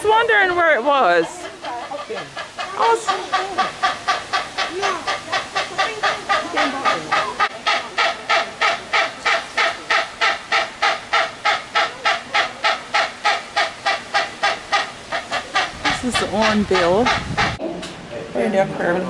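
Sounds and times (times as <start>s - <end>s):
hornbill calling: 1.0s - 17.6s.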